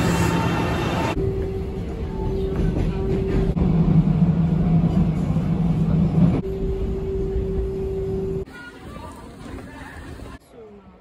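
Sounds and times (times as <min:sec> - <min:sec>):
train hum and rumble: 0:00.0 - 0:10.4.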